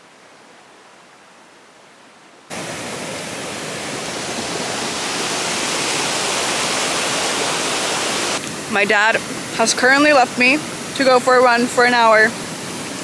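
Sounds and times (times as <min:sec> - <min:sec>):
water rushing over rocks: 0:02.5 - 0:13.0.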